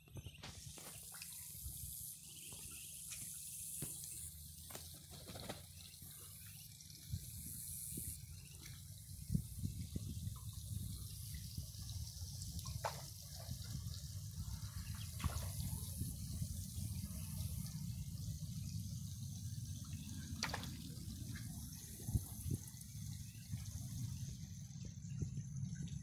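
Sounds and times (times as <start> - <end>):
sharp drip-like clicks: 0.1 - 5.1, 5.8 - 26.0
water splashing and dripping: 0.2 - 26.0.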